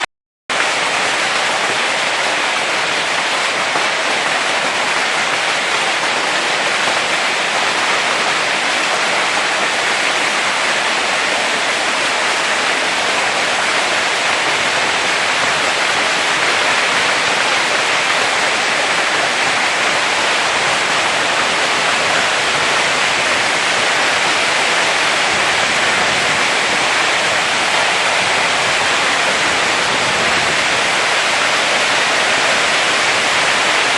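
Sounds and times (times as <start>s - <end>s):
hail and heavy rain: 0.5s - 33.9s.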